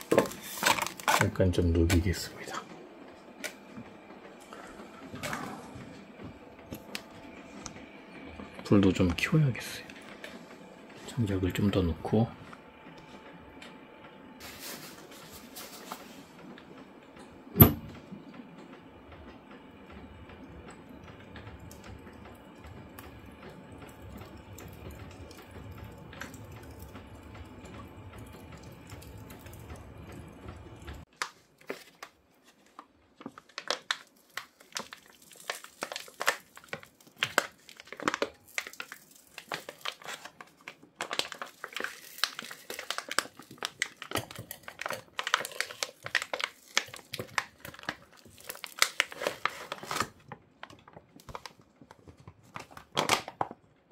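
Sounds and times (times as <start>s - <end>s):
firewood crackling in a stove: 0.0s - 51.9s.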